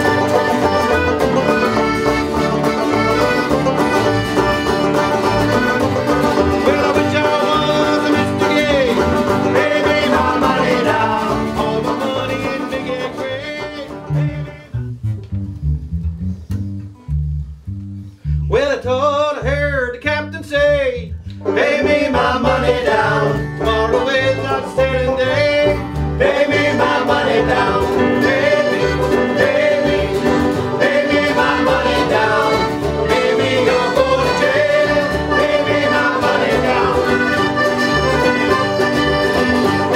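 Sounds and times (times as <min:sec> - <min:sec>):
folk band with banjo and guitar: 0:00.0 - 0:17.1, 0:18.0 - 0:39.9
bass notes: 0:00.0 - 0:39.9.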